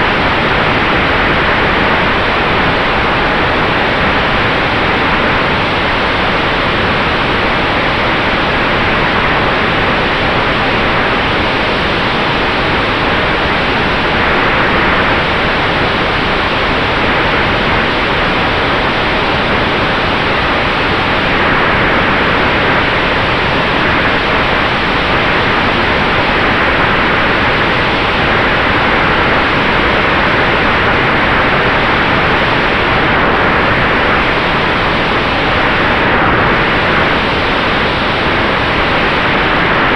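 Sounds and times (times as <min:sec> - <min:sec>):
airplane propeller and air rush: 0:00.0 - 0:39.9
faint steady whine: 0:00.0 - 0:39.9.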